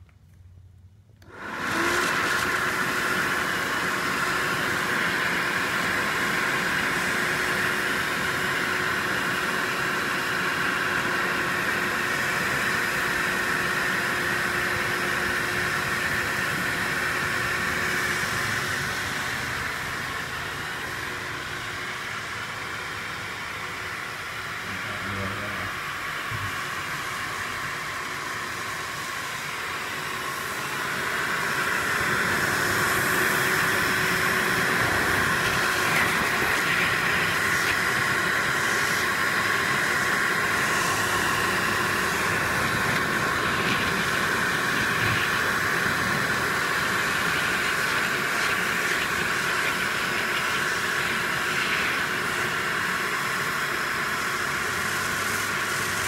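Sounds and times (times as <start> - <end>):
hot-air blower hissing: 1.2 - 56.0.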